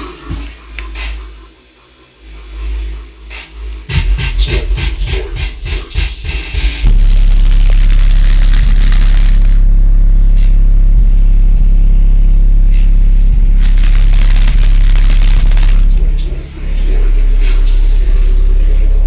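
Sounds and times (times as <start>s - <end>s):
deep bass tone from subwoofer: 0.0s - 19.0s
pulsing music beat: 0.0s - 19.0s.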